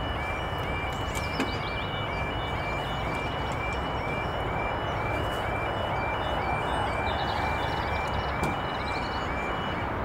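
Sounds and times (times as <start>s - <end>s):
level crossing two-tone alarm: 0.0s - 10.0s
bird chirps: 0.1s - 9.8s.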